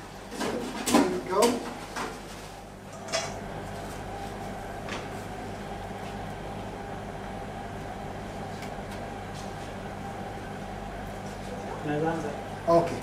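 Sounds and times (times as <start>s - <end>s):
kitchen equipment hum: 0.0s - 13.0s.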